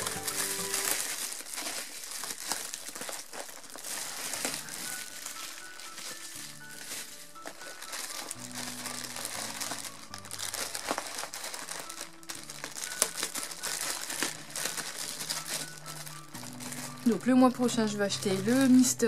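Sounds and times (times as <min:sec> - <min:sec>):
slow background music: 0:00.0 - 0:01.3, 0:03.8 - 0:19.0
bubble wrap crinkling: 0:00.0 - 0:19.0.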